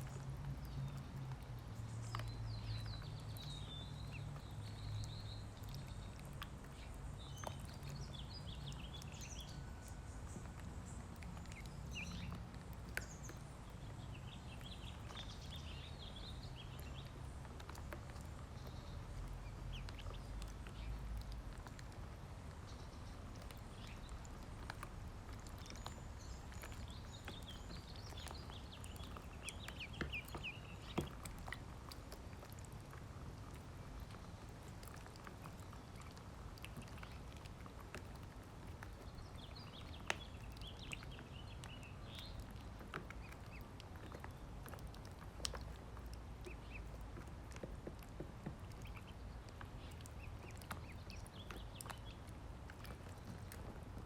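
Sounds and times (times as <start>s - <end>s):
ducklings peeping: 2.1s - 22.0s, 22.6s - 54.0s.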